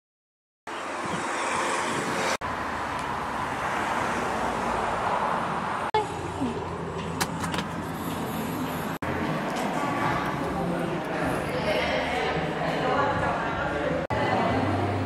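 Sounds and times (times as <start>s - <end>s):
road traffic noise: 0.7s - 15.0s.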